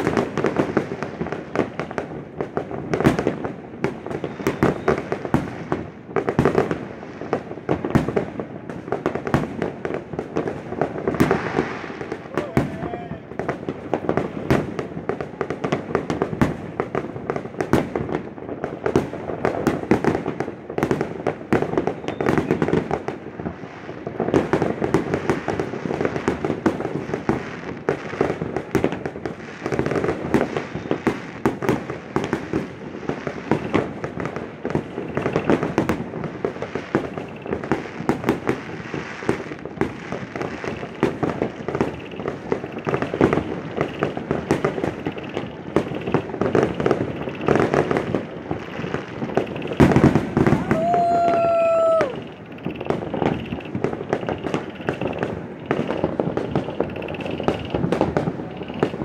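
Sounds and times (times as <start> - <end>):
fireworks cracking and banging: 0.0 - 59.0.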